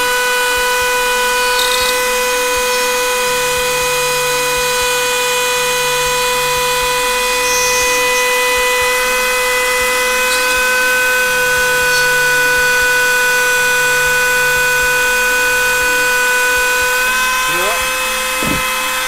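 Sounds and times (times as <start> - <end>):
rotary tool whining on plastic: 0.0 - 19.0.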